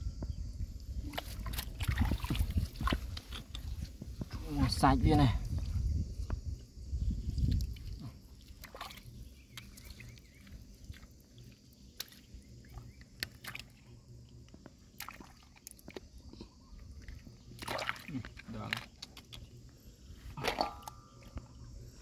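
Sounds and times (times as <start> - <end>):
water sloshing: 1.0 - 5.7, 7.5 - 22.0.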